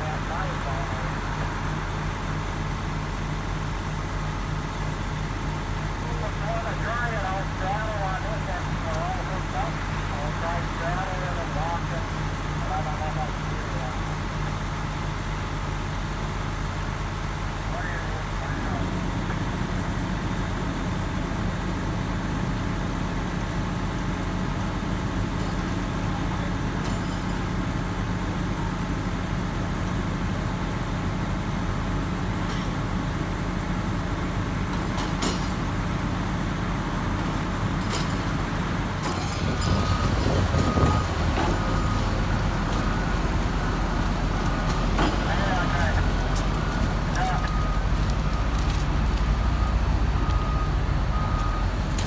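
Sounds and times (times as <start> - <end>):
heavy diesel machinery running: 0.0 - 52.0.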